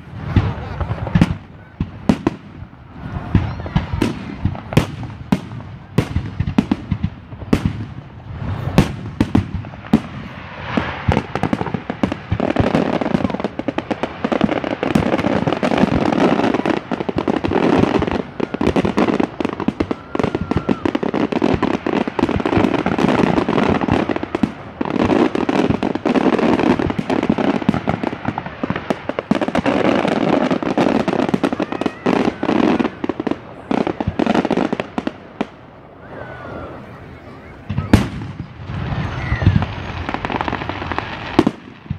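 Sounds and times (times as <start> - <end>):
fireworks booming and banging: 0.0 - 41.9.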